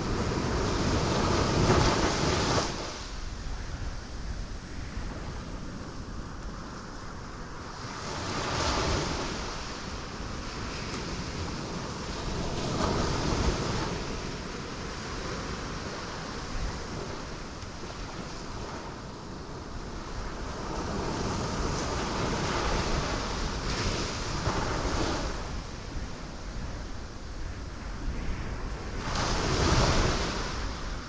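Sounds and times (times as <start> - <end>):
steady rush of surf: 0.0 - 31.0.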